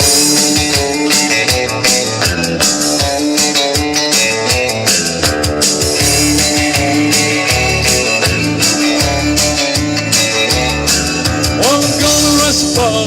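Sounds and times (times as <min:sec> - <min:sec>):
drum kit: 0:00.0 - 0:13.0
electric guitar: 0:00.0 - 0:13.0.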